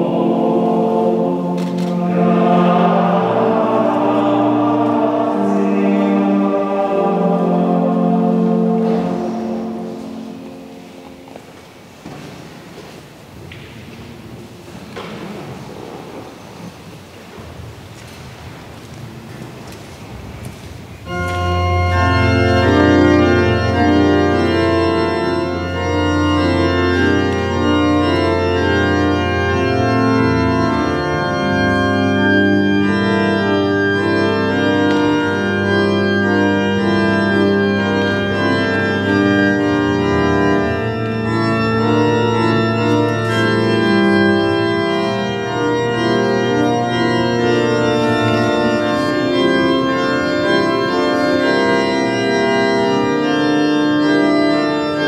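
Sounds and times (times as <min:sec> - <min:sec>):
church organ chords: 0:00.0 - 0:13.7, 0:18.9 - 0:55.0.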